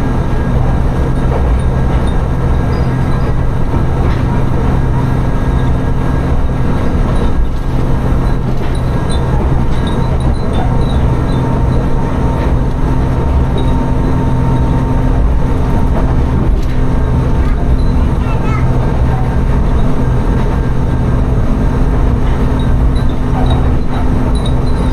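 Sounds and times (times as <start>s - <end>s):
train engine drone: 0.0s - 24.9s
wheel rumble on rails: 0.0s - 24.9s.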